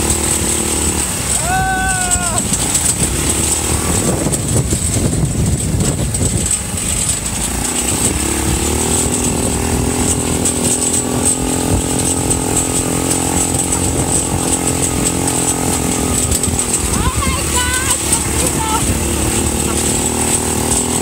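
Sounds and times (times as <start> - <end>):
buggy engine running: 0.0 - 21.0
frame knocks and rattles: 2.2 - 21.0.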